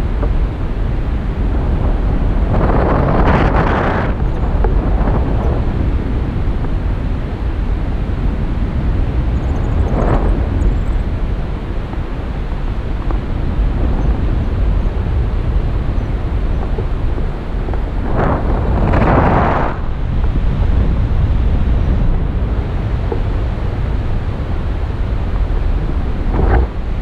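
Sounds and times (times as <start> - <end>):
wind rushing over microphone: 0.0 - 27.0.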